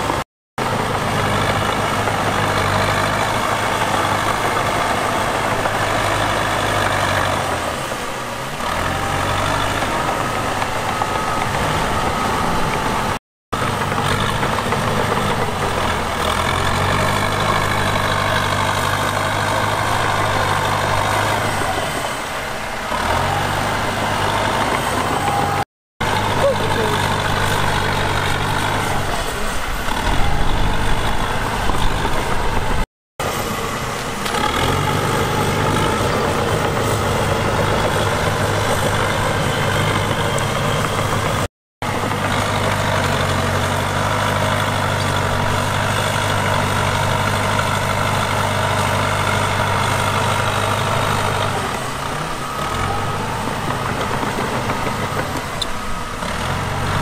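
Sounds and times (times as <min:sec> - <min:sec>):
diesel engine running hard: 0:00.0 - 0:57.0.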